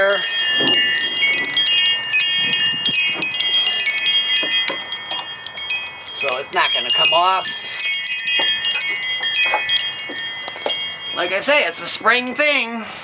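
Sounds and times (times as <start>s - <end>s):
wind chime ringing: 0.0s - 12.8s.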